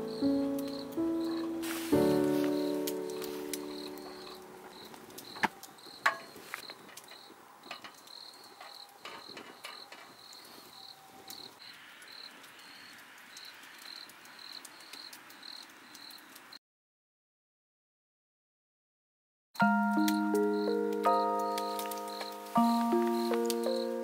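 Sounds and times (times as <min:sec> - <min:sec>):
crickets chirping: 0:00.0 - 0:16.6, 0:20.0 - 0:24.0.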